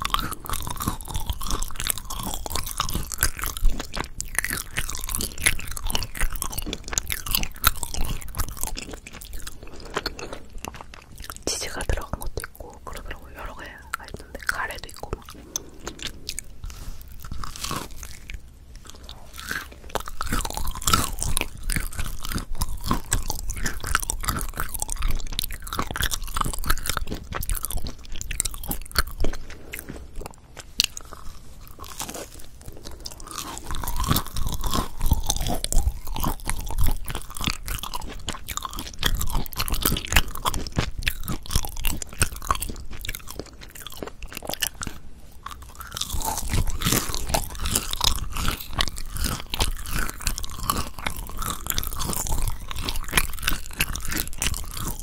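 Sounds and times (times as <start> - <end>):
biting crisp crust: 0.0 - 55.0
chewing: 0.0 - 55.0.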